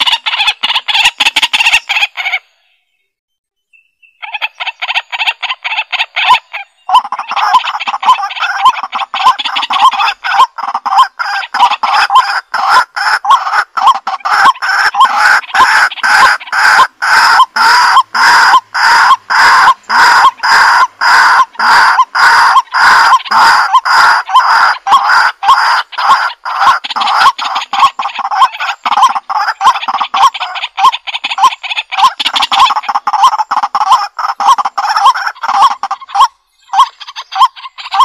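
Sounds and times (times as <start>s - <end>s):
fowl calling: 0.0s - 2.6s, 4.2s - 38.0s.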